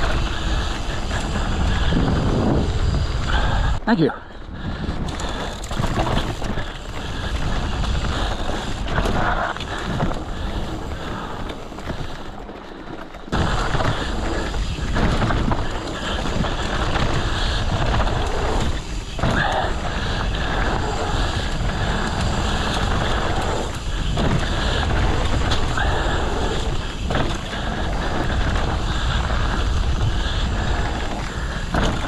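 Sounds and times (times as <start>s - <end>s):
wind noise on microphone: 0.0s - 12.5s, 13.3s - 32.0s
bike rumbling on dirt trail: 0.0s - 32.0s.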